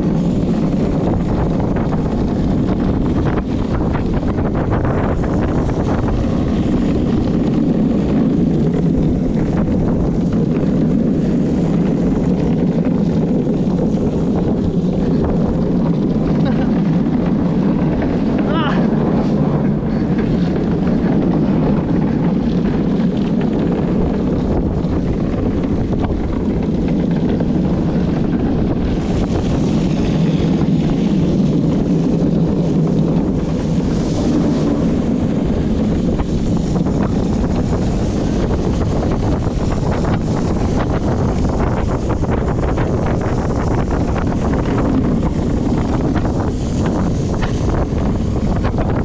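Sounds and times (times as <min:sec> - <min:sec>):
cart wheels rolling on asphalt: 0:00.0 - 0:49.0
wind buffeting microphone: 0:00.0 - 0:49.0.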